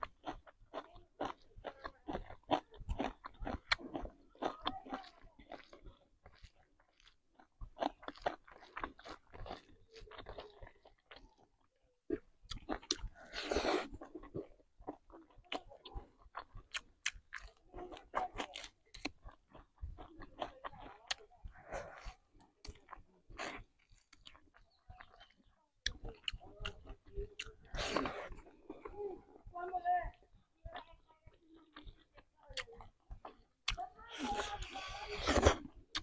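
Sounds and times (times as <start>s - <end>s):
person chewing and crunching food: 0.0s - 36.0s.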